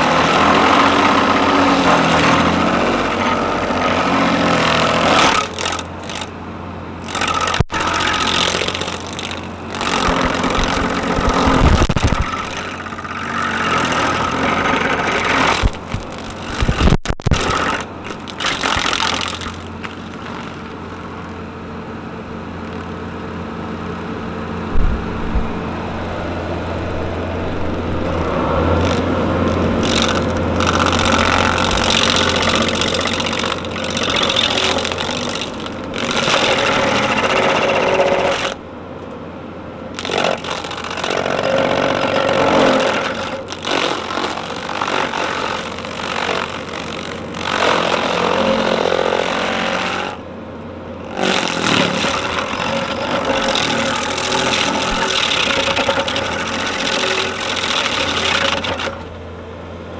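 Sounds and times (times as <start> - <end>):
stump grinder working: 0.0 - 59.4
skid steer running hard: 0.0 - 59.9.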